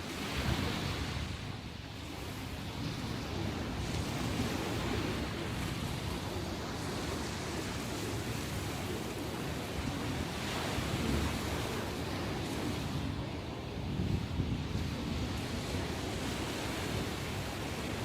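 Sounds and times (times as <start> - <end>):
waves breaking: 0.0 - 18.0.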